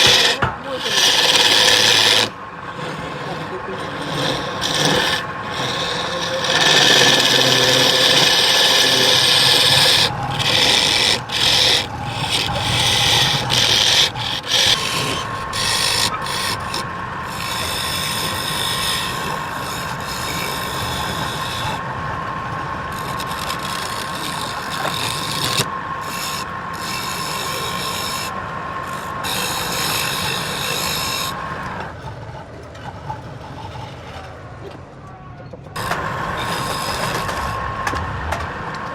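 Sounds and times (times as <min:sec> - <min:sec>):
turning tool scraping wood: 0:00.0 - 0:34.9, 0:35.6 - 0:38.9
wood lathe running: 0:00.0 - 0:38.9.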